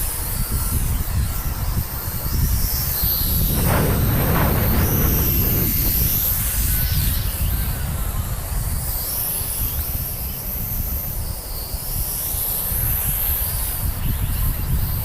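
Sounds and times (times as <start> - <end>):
quadcopter motors whining: 0.0 - 15.0
wind buffeting microphone: 0.0 - 15.0.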